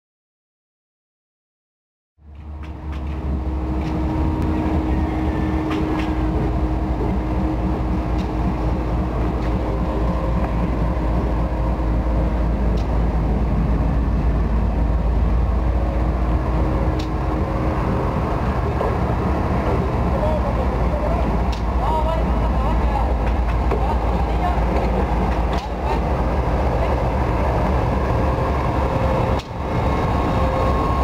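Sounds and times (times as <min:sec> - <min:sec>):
diesel locomotive engine rumbling: 0:02.2 - 0:31.0.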